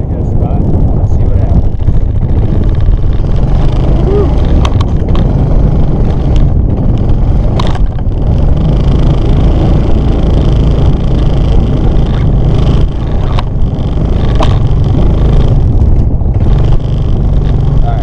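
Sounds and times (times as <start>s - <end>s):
off-road vehicle engine running: 0.0s - 18.0s
wind rumble on microphone: 0.0s - 18.0s.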